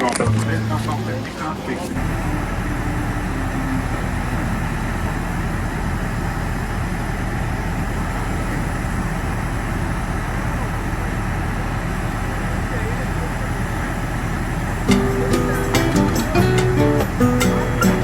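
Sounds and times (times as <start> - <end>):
engine humming with whine: 0.0 - 18.0.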